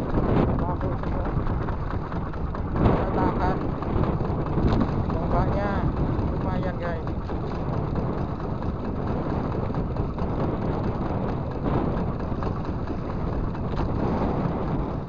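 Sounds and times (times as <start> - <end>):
choppy sea water: 0.0 - 15.0
wind on microphone: 0.0 - 15.0.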